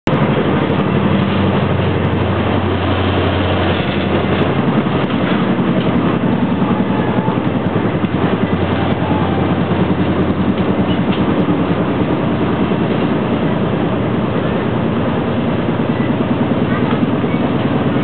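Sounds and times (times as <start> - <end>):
low hum: 0.1 - 18.0
train running noise inside carriage: 0.1 - 18.0.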